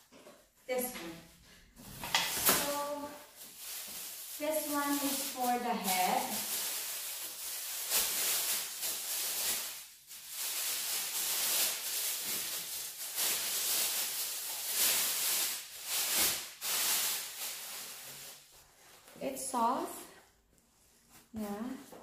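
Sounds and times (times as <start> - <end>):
plastic wrapping crinkling: 0.7 - 19.6.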